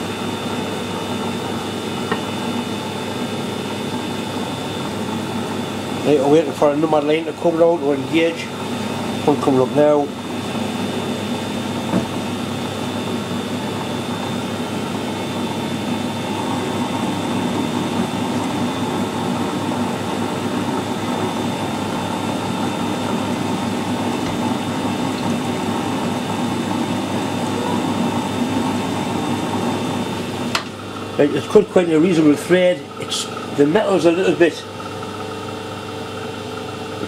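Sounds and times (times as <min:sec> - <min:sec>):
metal lathe running: 0:00.0 - 0:37.0.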